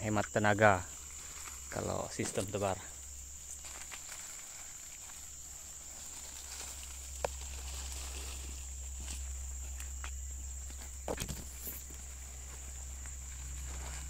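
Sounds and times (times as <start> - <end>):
insects chirring: 0.0 - 14.0
leaves crackling: 0.6 - 14.0.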